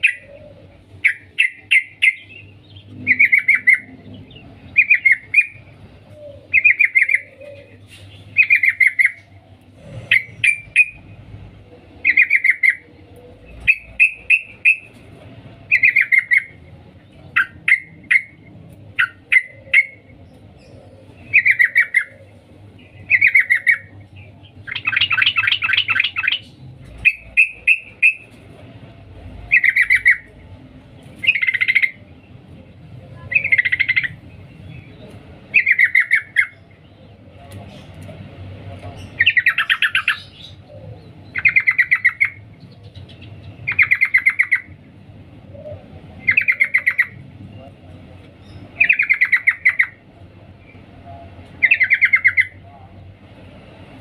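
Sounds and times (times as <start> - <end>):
bird chattering calls: 0.0 - 11.2, 12.0 - 15.0, 15.7 - 28.4, 29.4 - 30.4, 31.2 - 32.2, 33.2 - 38.1, 38.8 - 44.9, 45.5 - 47.2, 48.4 - 50.0, 51.6 - 52.6.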